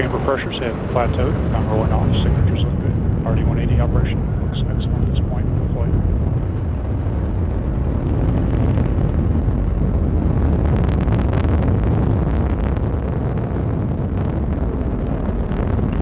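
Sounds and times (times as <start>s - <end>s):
rocket engine rumbling: 0.0s - 16.0s.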